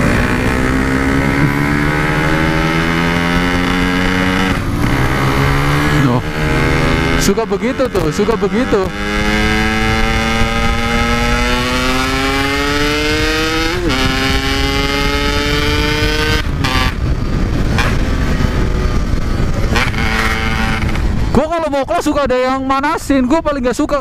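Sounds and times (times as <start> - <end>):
motorcycle engine under hard throttle: 0.0 - 22.0
wind rush on microphone: 0.0 - 24.0.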